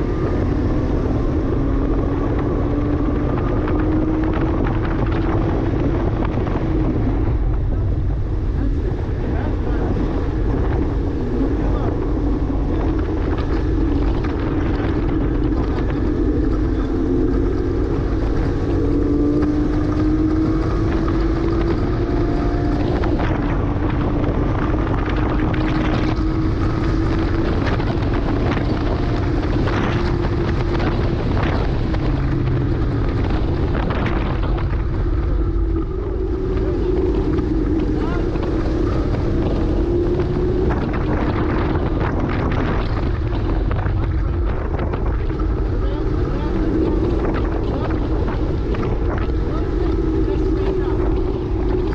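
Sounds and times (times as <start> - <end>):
car engine pulling hard: 0.0 - 51.9.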